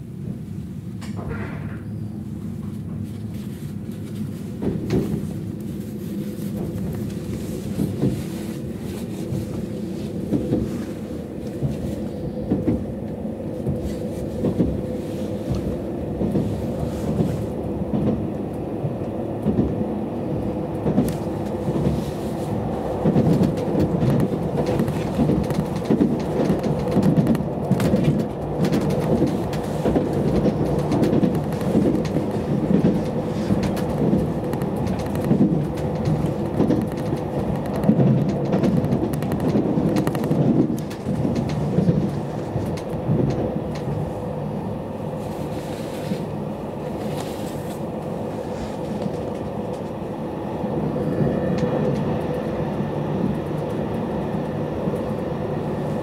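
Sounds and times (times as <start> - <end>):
train hum: 0.0 - 56.0
train wheels rumbling on rail: 0.0 - 56.0.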